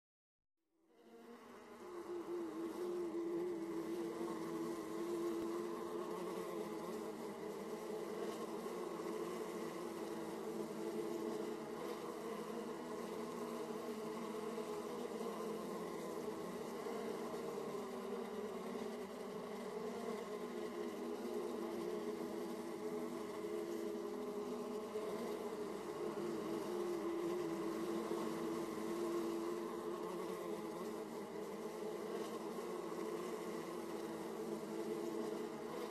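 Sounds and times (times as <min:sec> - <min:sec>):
honey bees buzzing: 0:01.0 - 0:35.9.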